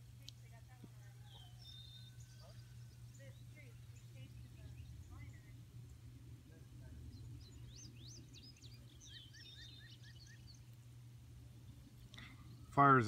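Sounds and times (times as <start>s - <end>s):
low steady rumble: 0.0s - 13.0s
birdsong chirps and whistles: 1.0s - 6.2s, 6.8s - 13.0s.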